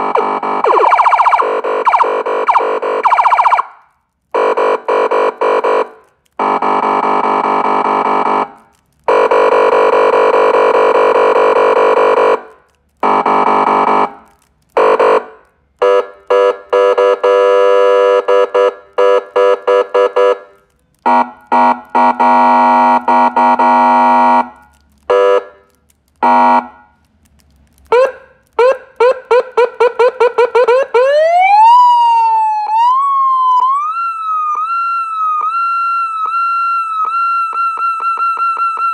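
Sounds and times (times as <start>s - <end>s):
electronic police siren: 0.0s - 3.8s, 4.4s - 14.2s, 14.8s - 25.6s, 27.9s - 38.9s.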